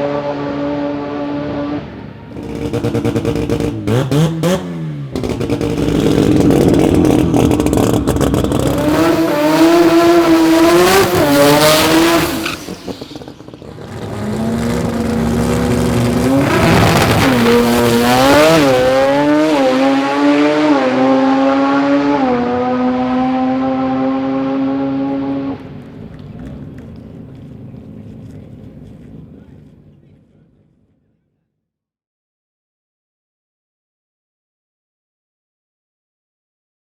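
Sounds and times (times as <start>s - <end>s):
drag cars accelerating hard: 0.0s - 30.0s.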